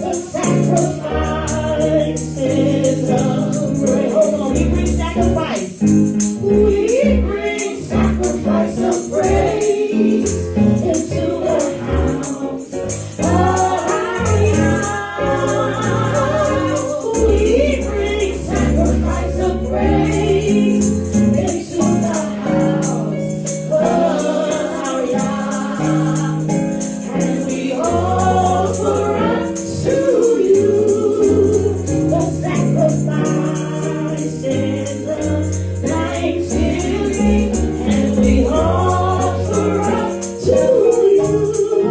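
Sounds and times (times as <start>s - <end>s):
group singing gospel song: 0.0s - 41.9s.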